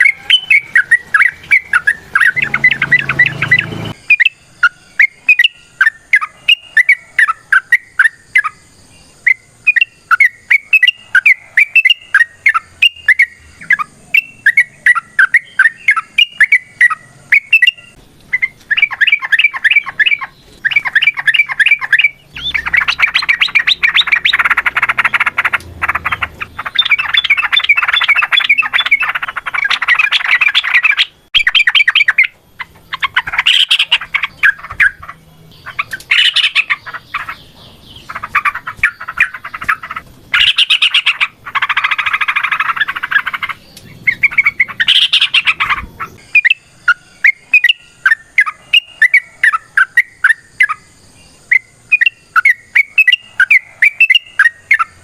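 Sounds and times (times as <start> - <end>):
bird rapid chattering: 0.0 - 8.6, 9.2 - 55.0
bird chirping: 0.0 - 55.0.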